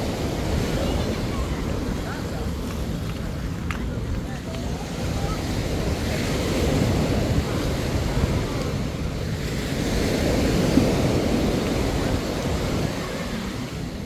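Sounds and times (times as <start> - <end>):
small waves washing on beach: 0.0 - 14.0
wind buffeting microphone: 0.0 - 14.0.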